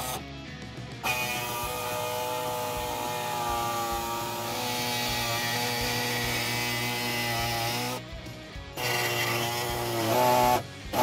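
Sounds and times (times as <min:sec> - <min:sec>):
reciprocating saw buzzing: 0:00.0 - 0:00.3, 0:01.0 - 0:11.0.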